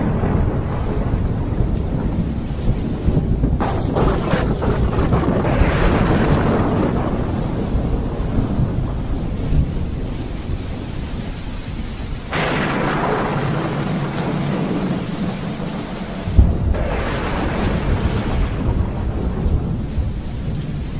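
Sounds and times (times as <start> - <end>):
sharp thunder crack: 0.0 - 10.6, 12.3 - 20.9
steady rain: 0.0 - 20.9
thunder rolling: 0.0 - 20.9.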